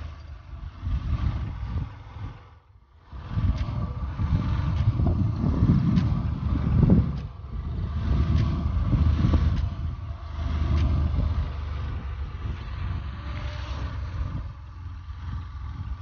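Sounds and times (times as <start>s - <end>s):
wind buffeting microphone: 0.0s - 16.0s
motorcycle engine running: 2.9s - 16.0s.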